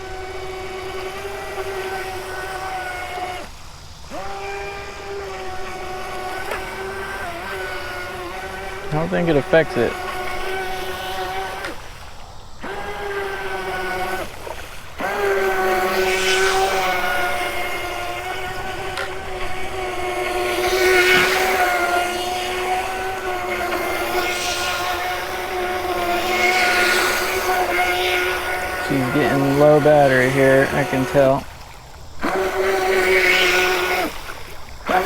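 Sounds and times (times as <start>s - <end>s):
toy boat motor whining: 0.0s - 35.0s
water spray hissing: 0.0s - 35.0s.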